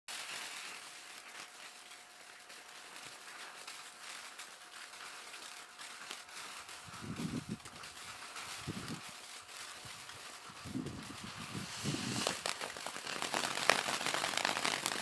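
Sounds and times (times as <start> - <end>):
firework fountain hissing: 0.1 - 15.0.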